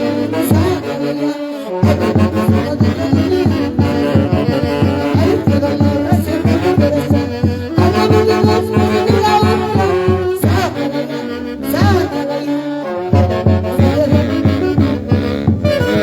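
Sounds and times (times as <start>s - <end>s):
horn lines: 0.0s - 16.0s.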